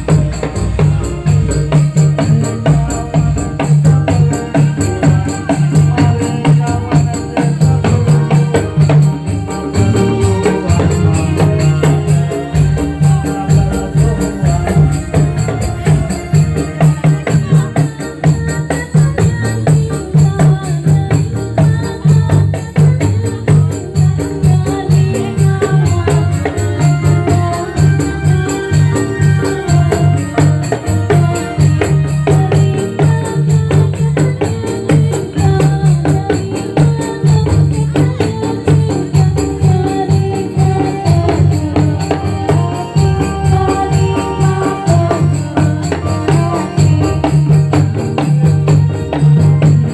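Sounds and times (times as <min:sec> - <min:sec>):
fast percussion beat: 0:00.0 - 0:49.9
held melody line: 0:00.0 - 0:49.9
jingling hand drums: 0:00.0 - 0:49.9.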